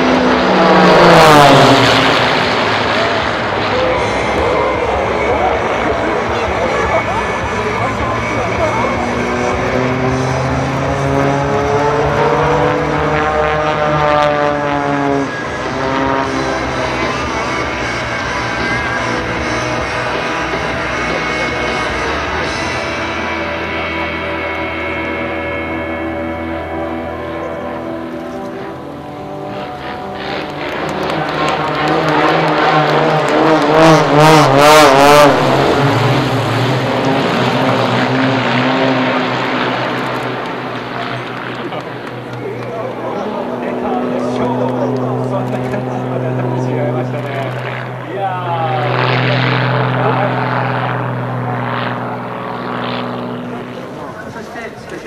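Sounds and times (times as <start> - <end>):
propeller aeroplane engine running: 0.0 - 55.0.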